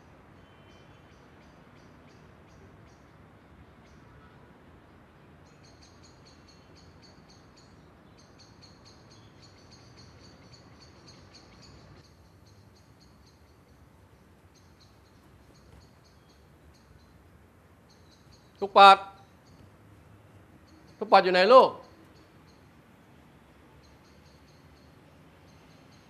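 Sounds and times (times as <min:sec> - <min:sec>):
faint crickets chirping: 0:00.0 - 0:26.0
low steady hiss: 0:00.0 - 0:26.0.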